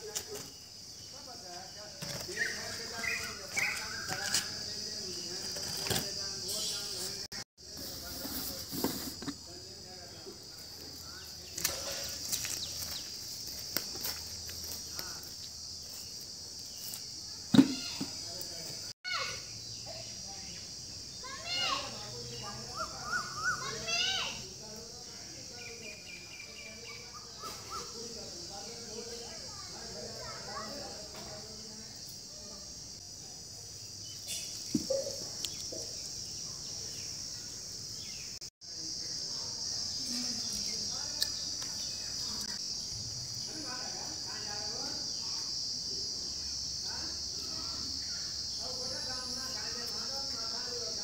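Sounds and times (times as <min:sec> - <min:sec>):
insects chorus: 0:00.0 - 0:51.0.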